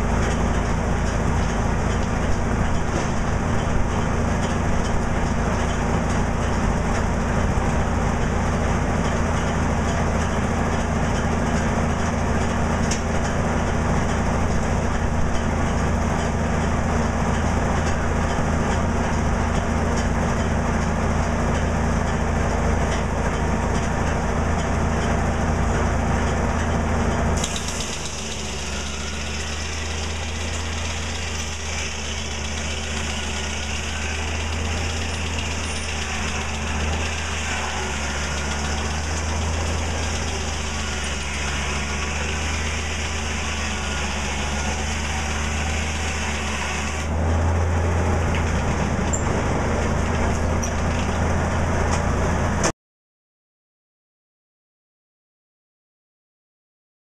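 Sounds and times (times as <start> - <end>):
sawmill blade spinning: 0.0 - 52.6.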